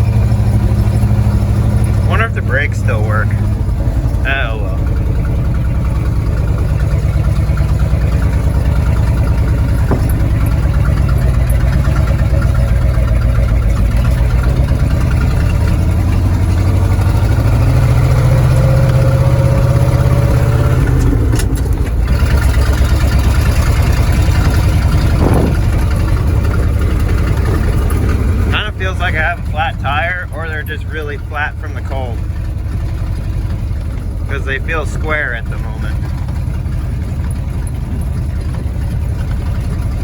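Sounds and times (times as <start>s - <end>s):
pickup truck engine running: 0.0s - 40.0s.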